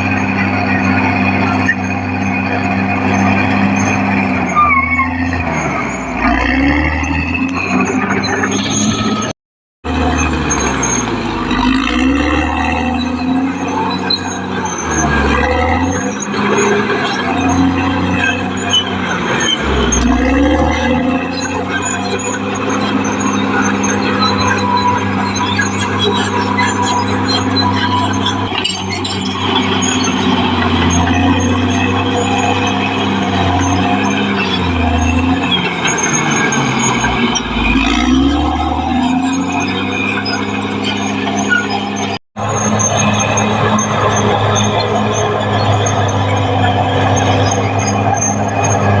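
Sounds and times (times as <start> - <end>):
bulldozer diesel engine rumbling: 0.0 - 49.0.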